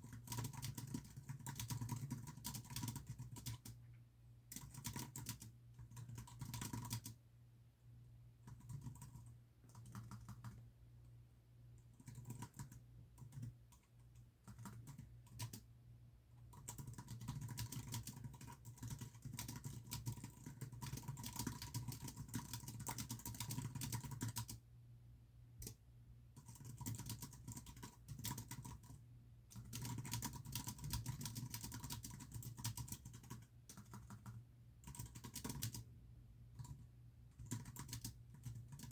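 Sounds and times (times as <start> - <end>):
typing on computer keyboard: 0.0 - 3.8, 4.5 - 7.2, 8.4 - 10.7, 11.8 - 15.7, 16.3 - 24.6, 25.6 - 25.8, 26.4 - 35.9, 36.5 - 38.9.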